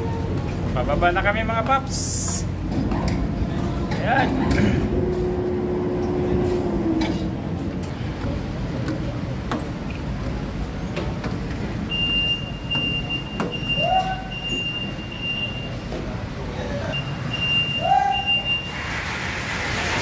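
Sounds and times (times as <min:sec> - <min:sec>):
low rumble of ship engines: 0:00.0 - 0:20.0.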